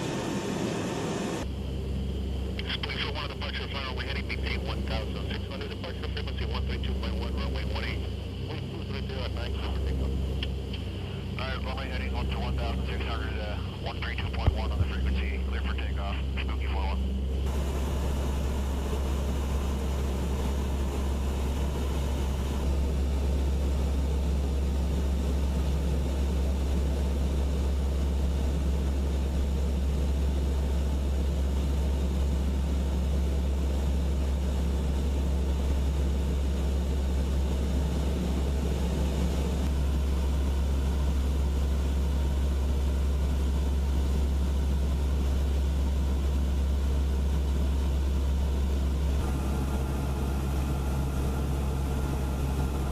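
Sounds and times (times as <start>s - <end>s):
turboprop engines droning: 0.0s - 52.9s.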